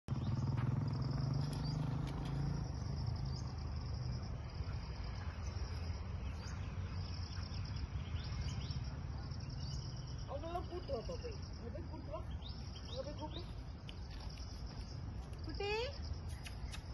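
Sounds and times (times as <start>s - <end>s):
bird chirps: 0.1s - 2.5s, 4.6s - 16.9s
insects chirring: 0.1s - 16.9s.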